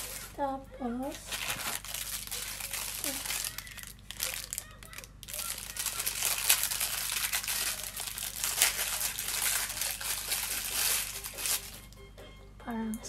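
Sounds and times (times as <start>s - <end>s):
plastic bag crinkling: 0.0s - 0.4s, 1.0s - 12.0s.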